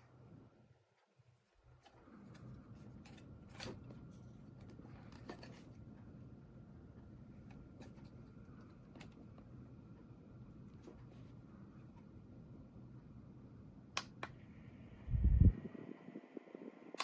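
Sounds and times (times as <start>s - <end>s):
desk fan humming: 0.0s - 17.0s.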